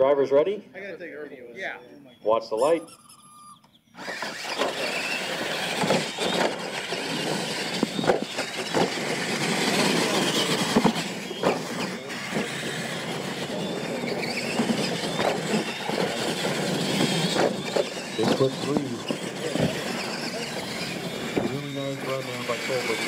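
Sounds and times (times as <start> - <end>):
toy truck motors whining: 2.5 - 23.0
tyres churning in dirt: 4.0 - 23.0.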